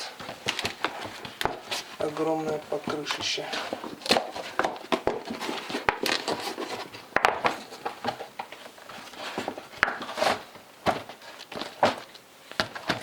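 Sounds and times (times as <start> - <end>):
bike tire rustling and scraping: 0.0 - 13.0.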